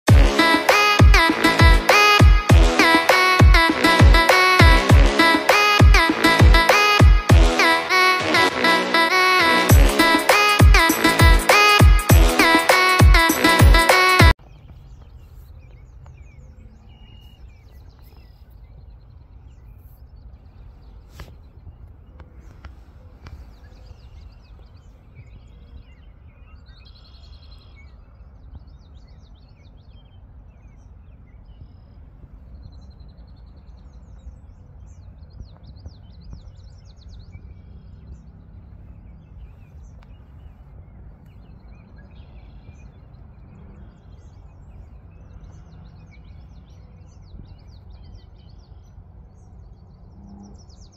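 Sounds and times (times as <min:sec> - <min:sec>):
songbirds chirping and trilling: 0:00.2 - 0:50.9.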